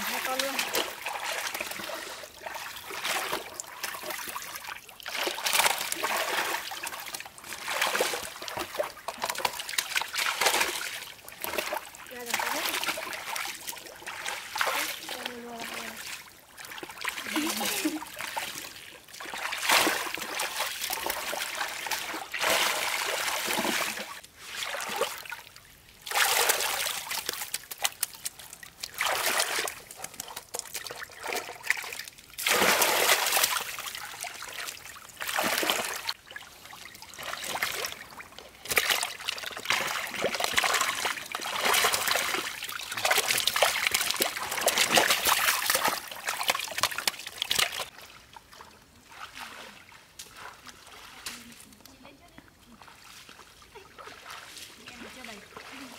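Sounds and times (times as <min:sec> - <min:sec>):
water splashing and pouring: 0:00.0 - 0:51.7.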